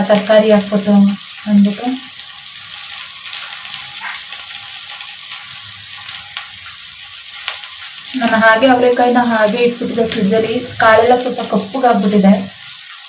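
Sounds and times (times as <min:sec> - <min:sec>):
okra sizzling in oil: 0:00.0 - 0:13.0.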